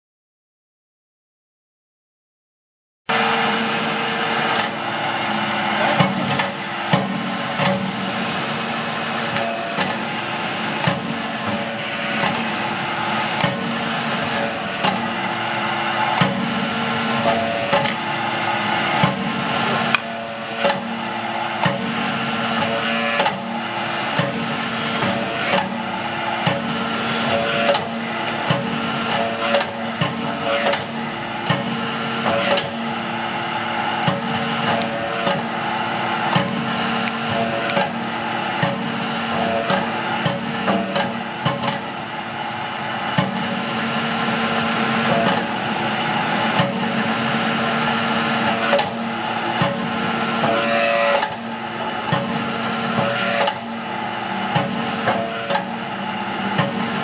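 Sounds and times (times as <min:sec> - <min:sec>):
hydraulic pump motor humming: 0:03.1 - 0:57.0.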